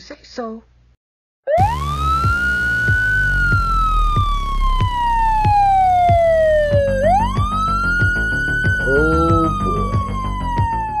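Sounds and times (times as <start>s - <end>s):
police car siren wailing: 1.5s - 11.0s
music with a steady beat: 1.6s - 11.0s.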